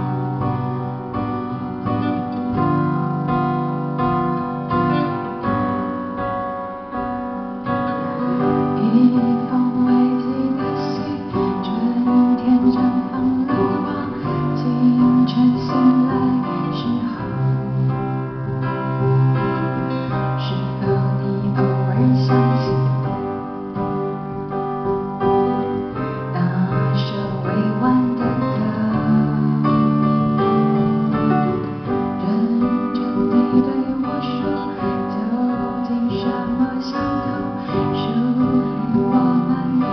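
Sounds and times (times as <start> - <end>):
live band playing pop song: 7.6 - 39.9.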